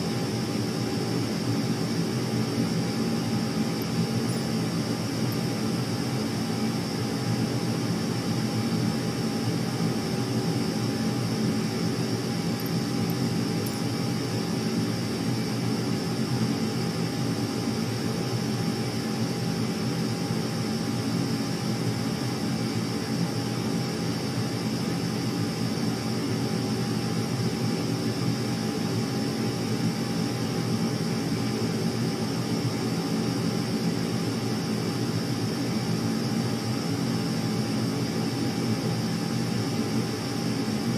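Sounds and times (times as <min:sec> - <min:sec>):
faint constant whine: 0:00.0 - 0:40.9.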